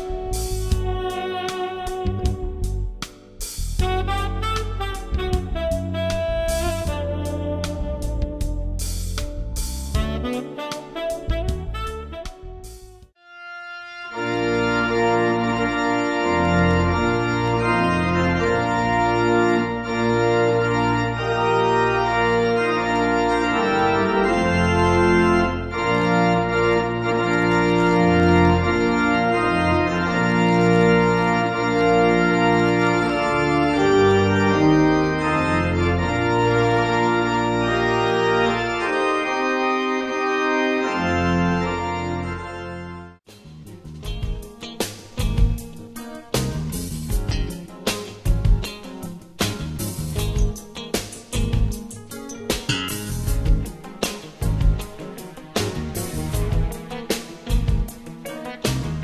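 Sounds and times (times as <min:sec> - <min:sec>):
organ playing chords: 0:00.0 - 0:59.0.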